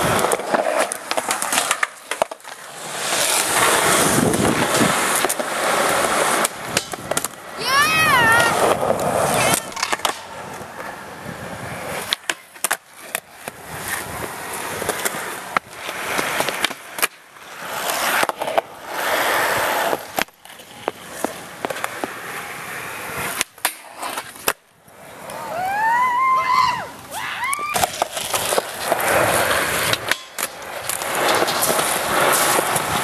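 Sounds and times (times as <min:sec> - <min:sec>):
skateboard clacks: 0:00.0 - 0:26.3, 0:26.9 - 0:33.0
skateboard wheels rolling on concrete: 0:00.0 - 0:33.0.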